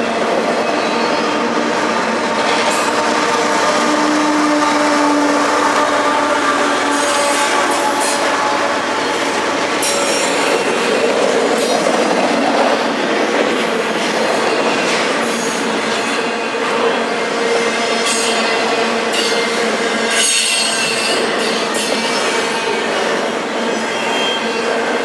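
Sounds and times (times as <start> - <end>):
rail car clatter: 0.0 - 25.0
train wheels rolling on rails: 0.0 - 25.0.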